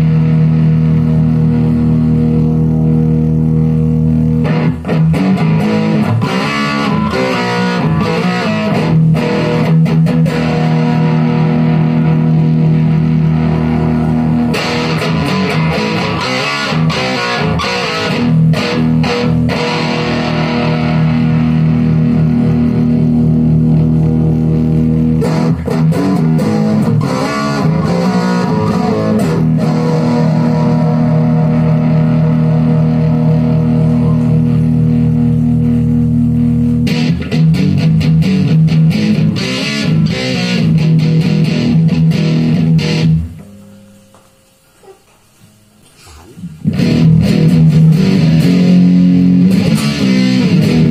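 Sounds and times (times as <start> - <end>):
distorted electric guitar chords: 0.0 - 50.9.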